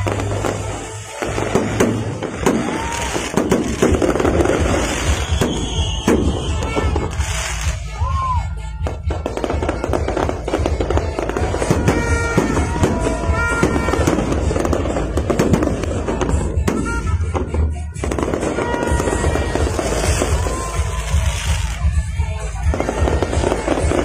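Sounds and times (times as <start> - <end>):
fireworks crackling and popping: 0.0 - 24.0
music playing: 0.0 - 24.0.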